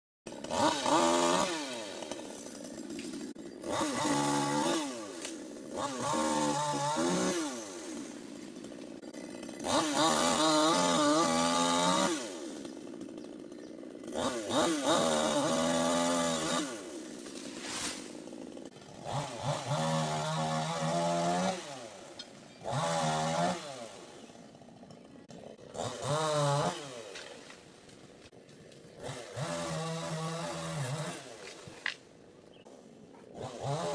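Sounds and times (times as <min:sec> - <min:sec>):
chainsaw revving: 0:00.3 - 0:33.9.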